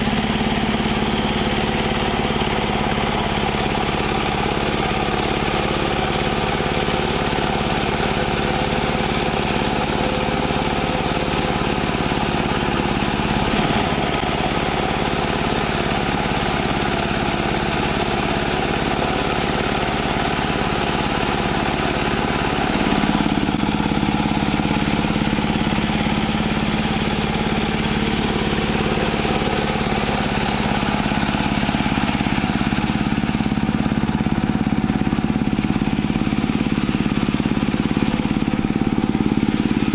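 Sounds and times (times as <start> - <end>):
hand tractor diesel engine: 0.0 - 39.9.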